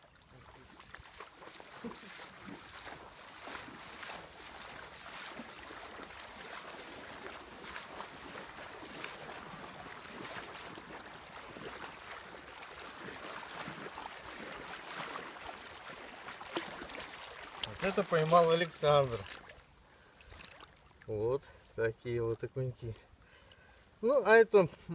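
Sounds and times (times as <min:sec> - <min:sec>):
water splashing around wading legs: 0:00.0 - 0:21.8.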